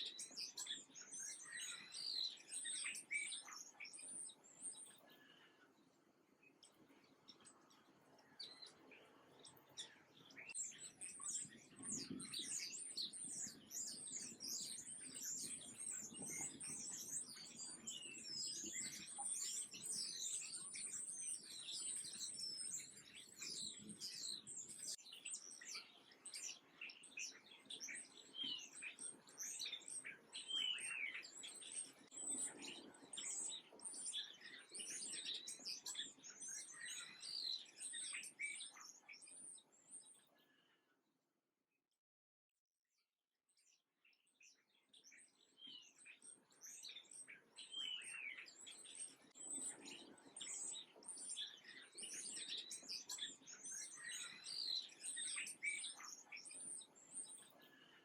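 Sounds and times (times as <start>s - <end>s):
small birds chirping: 0.0s - 41.0s, 43.5s - 58.0s.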